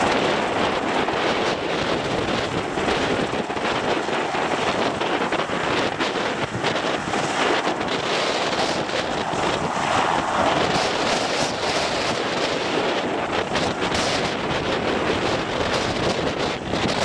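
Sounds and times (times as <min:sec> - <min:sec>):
helicopter turbine and rotor noise: 0:00.0 - 0:17.0
wind buffeting microphone: 0:00.0 - 0:17.0.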